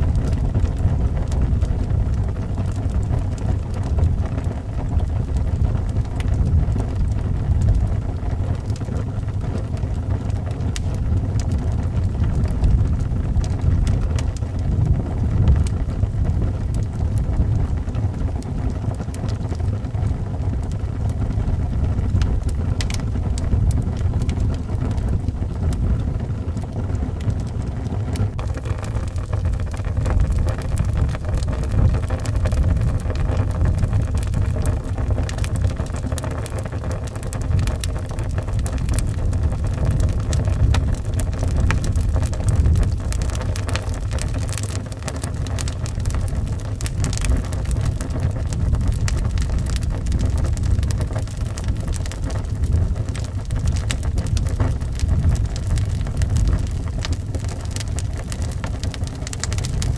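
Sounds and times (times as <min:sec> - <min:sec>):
fire popping: 0:00.0 - 0:59.9
howling wind: 0:00.0 - 0:59.9
wood fire crackling: 0:00.0 - 0:59.9.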